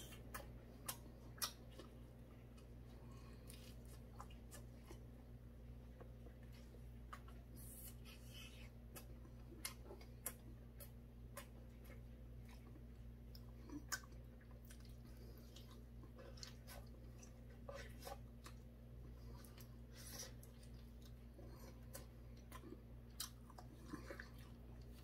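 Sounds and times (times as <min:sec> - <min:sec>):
low steady hum: 0:00.0 - 0:25.0
person chewing chicken wing: 0:00.0 - 0:25.0.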